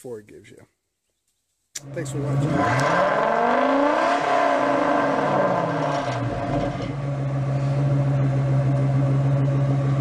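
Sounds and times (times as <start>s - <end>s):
engine droning: 1.8s - 10.0s.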